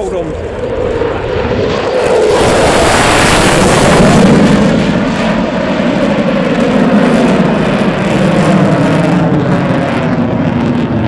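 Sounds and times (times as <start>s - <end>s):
fighter jet afterburner roar: 0.0s - 11.0s.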